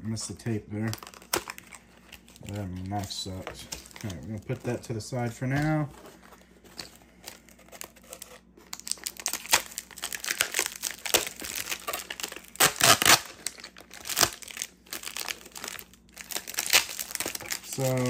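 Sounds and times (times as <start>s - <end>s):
packaging crackling and tearing: 0.4s - 4.8s, 6.7s - 18.0s.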